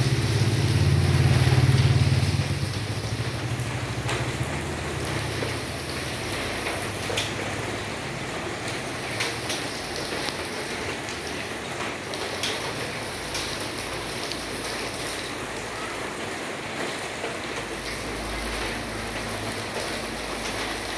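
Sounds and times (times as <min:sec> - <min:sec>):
rain pattering on surfaces: 0:00.0 - 0:20.9.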